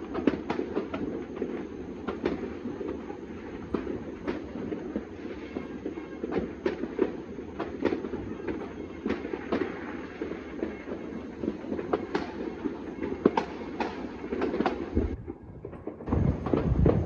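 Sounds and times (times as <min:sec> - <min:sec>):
distant fireworks crackling and popping: 0:00.0 - 0:17.0
firework bangs: 0:00.0 - 0:17.0.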